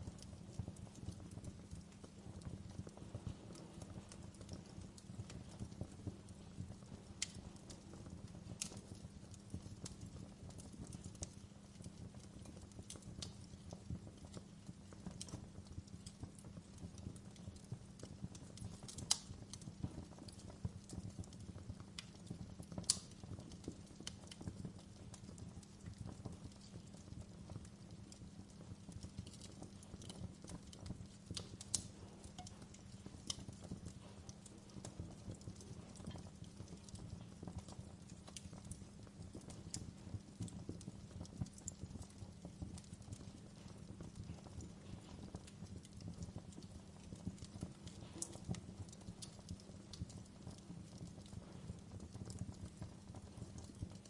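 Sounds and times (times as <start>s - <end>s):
low steady fire rumble: 0.0s - 54.0s
wood fire crackling and popping: 0.0s - 54.0s.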